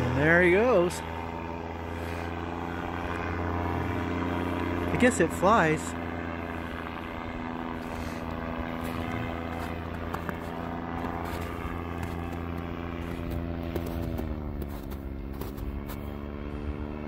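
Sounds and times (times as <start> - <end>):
paramotor engine droning: 0.0 - 17.0.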